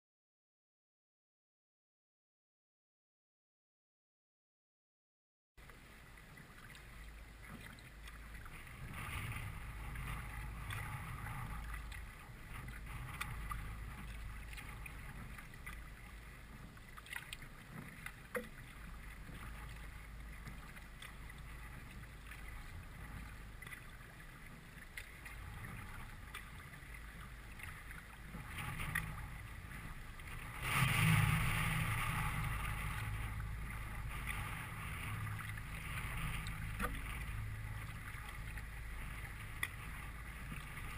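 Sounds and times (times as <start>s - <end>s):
paddle strokes splashing: 5.6s - 40.9s
water washing along hull: 5.6s - 40.9s
wind rumble on microphone: 5.8s - 40.9s.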